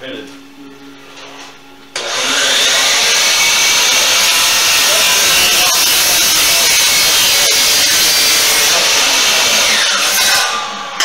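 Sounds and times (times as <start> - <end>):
miter saw cutting wood: 2.0 - 11.0.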